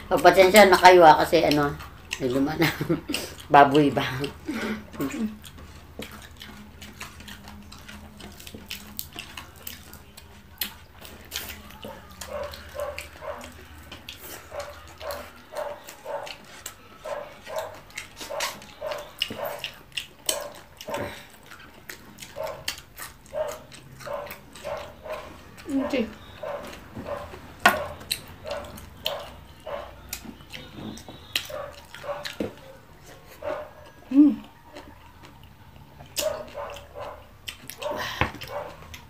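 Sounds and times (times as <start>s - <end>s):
wet chewing and lip smacking: 0.0s - 39.0s.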